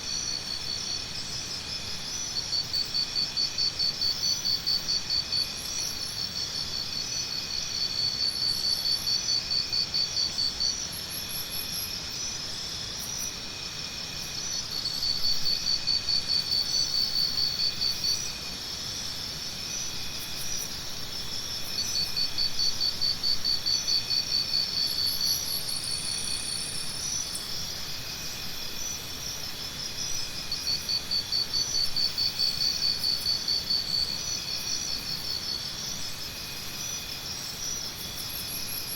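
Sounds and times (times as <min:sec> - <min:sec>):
insect calls: 0:00.0 - 0:38.9
insect fast pulsed trill: 0:00.1 - 0:38.9.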